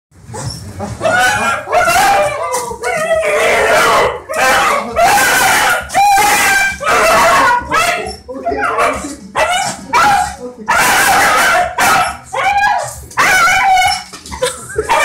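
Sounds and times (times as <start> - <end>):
dog screaming and whining: 0.3 - 15.0.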